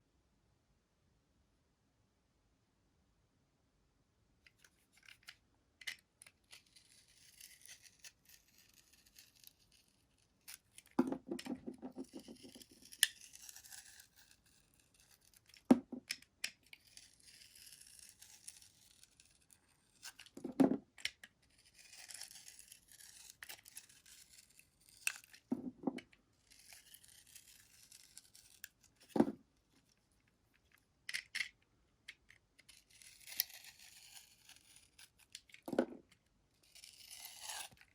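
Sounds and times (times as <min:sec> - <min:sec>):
blade scraping soap: 0:05.0 - 0:20.4, 0:21.0 - 0:29.2, 0:30.6 - 0:37.9.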